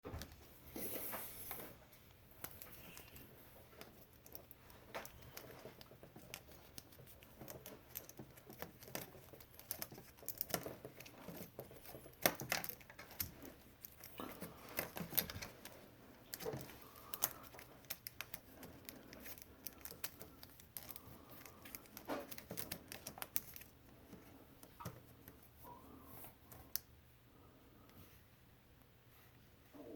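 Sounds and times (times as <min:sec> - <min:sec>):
plastic wire loom rustling: 0:00.0 - 0:26.8.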